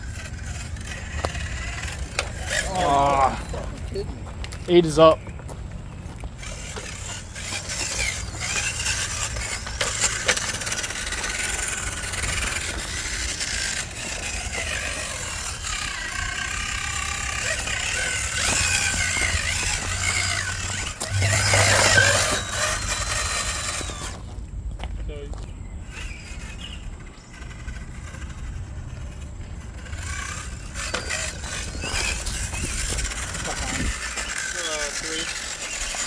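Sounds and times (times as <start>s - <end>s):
small electric motor whining: 0.0s - 5.2s, 6.1s - 24.5s, 25.8s - 36.0s.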